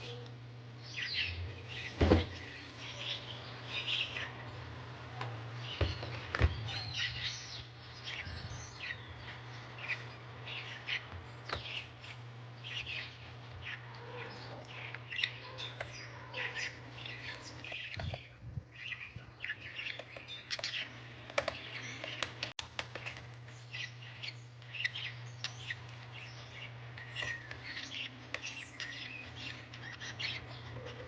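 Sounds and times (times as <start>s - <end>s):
small birds chirping: 0.0s - 31.0s
steady low hum: 0.0s - 31.0s.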